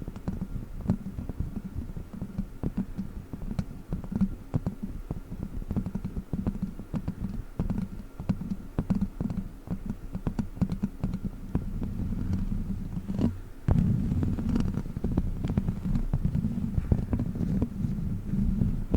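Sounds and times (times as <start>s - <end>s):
toy fingertips tapping and scratching: 0.0s - 18.9s.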